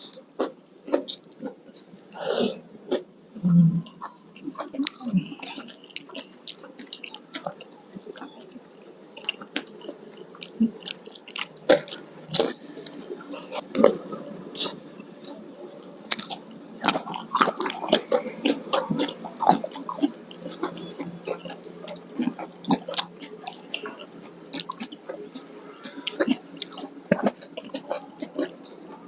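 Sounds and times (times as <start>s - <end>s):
wet chewing: 0.0s - 3.0s, 3.8s - 29.0s.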